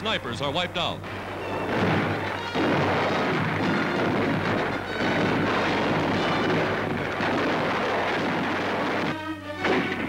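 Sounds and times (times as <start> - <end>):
faint music: 0.0 - 10.0
explosions: 1.0 - 10.0
gunfire: 1.0 - 10.0.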